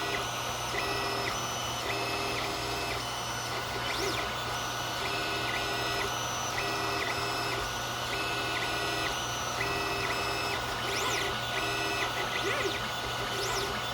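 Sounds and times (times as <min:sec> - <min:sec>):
cooling fans hissing and humming: 0:00.0 - 0:13.9
stepper motors whining: 0:00.0 - 0:13.9.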